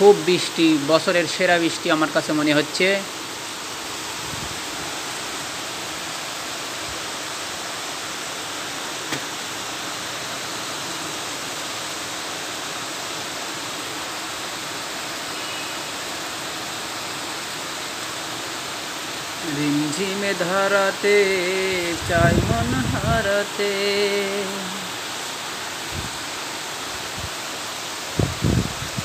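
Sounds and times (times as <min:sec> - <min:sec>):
heavy rain on pond and trees: 0:00.0 - 0:29.0.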